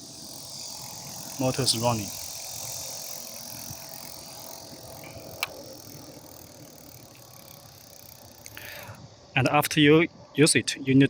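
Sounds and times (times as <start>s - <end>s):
electric motor whining: 0.0s - 9.0s.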